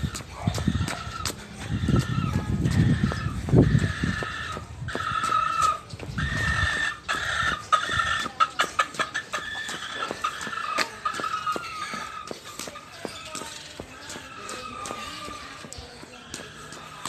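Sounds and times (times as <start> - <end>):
chickens clucking: 0.0 - 17.0
footsteps tapping: 0.0 - 17.0.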